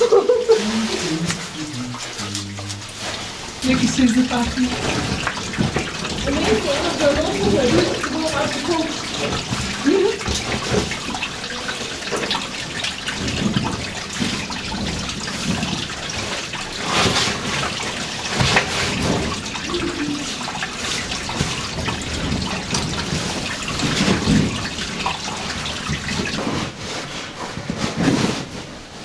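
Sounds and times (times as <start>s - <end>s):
steady trickling hiss: 0.0s - 29.0s.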